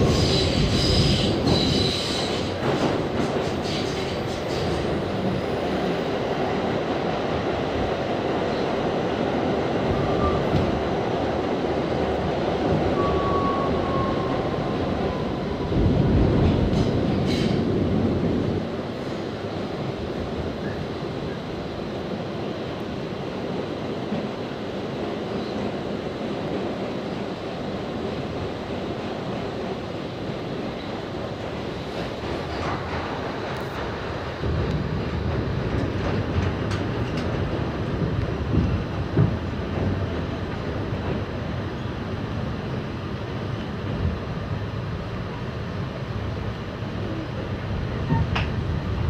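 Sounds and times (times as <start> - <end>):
subway train rumbling in tunnel: 0.0 - 49.0.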